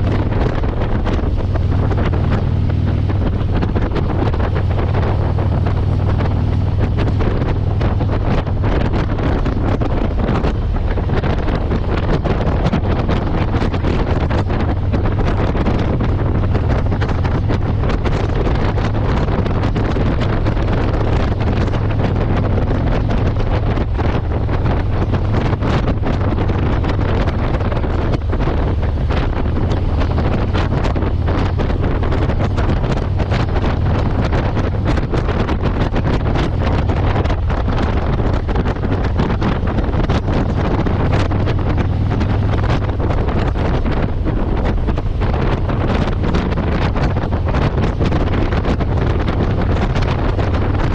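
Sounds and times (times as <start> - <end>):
motorcycle engine cruising: 0.0 - 50.9
wind buffeting microphone: 0.0 - 50.9.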